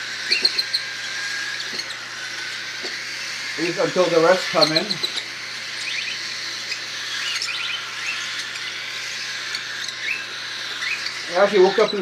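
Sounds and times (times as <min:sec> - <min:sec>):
cockatiels chirping: 0:00.0 - 0:12.0.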